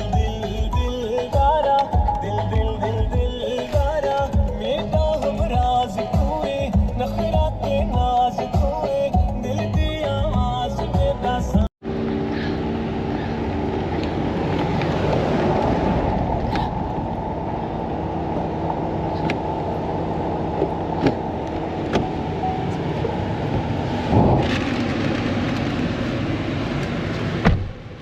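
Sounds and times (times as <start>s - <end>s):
car engine hum: 0.0s - 28.0s
road noise: 0.0s - 28.0s.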